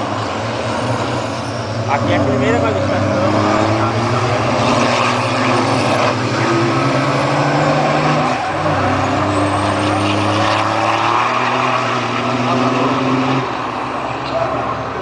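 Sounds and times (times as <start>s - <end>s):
racing truck diesel engines: 0.0s - 15.0s.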